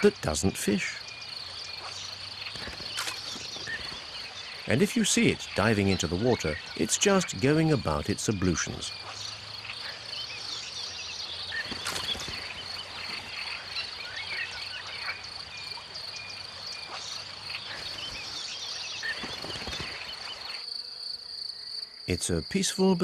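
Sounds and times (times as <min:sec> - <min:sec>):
insect chirps: 0:00.0 - 0:23.0
insect drone: 0:00.0 - 0:23.0.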